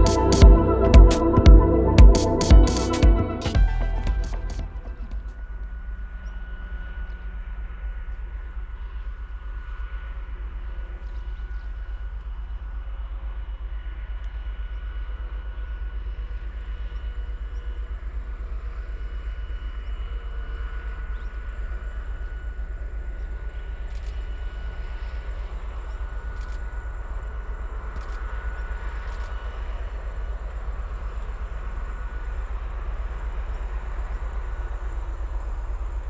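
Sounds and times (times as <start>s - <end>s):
diesel locomotive engines throbbing: 0.0s - 36.0s
faint high whine: 0.0s - 36.0s.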